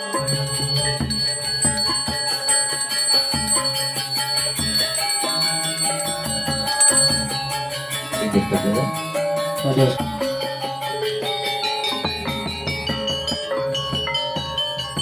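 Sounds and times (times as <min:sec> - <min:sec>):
gamelan metallophones playing: 0:00.0 - 0:15.0
small hand bell ringing: 0:00.0 - 0:15.0.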